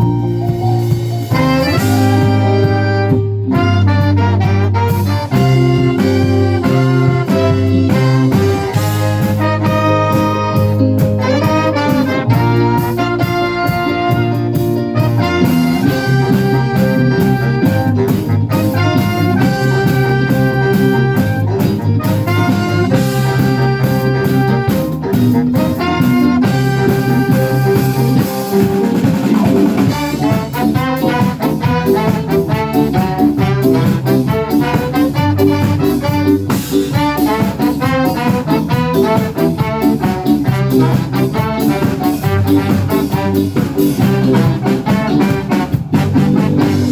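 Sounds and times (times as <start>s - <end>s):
brass and saxophone horns: 0.0s - 46.9s
drum kit and bass: 0.0s - 46.9s.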